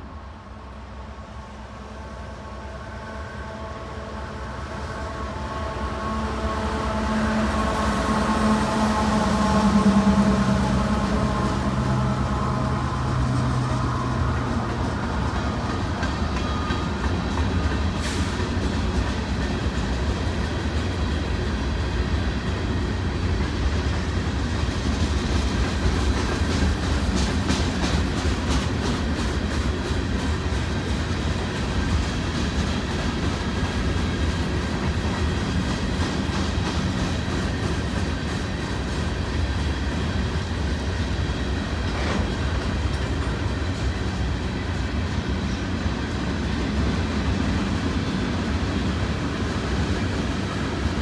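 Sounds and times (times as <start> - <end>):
diesel locomotives passing: 0.0 - 51.0
freight cars rolling by: 7.0 - 51.0.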